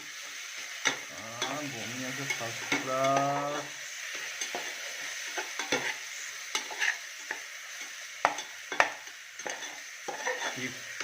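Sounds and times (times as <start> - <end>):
spatula scraping a pan: 0.0 - 10.8
food sizzling in oil: 0.0 - 11.0.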